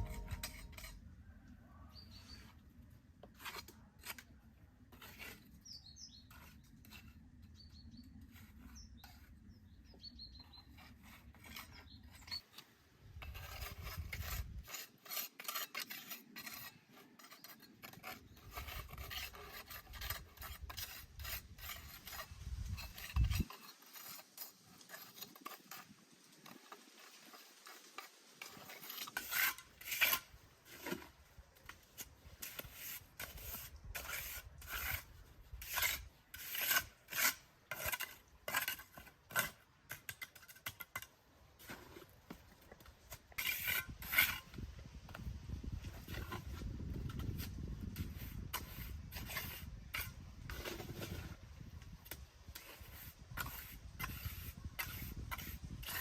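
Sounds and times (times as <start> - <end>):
scraping and rubbing: 0.0 - 1.0, 10.6 - 56.0.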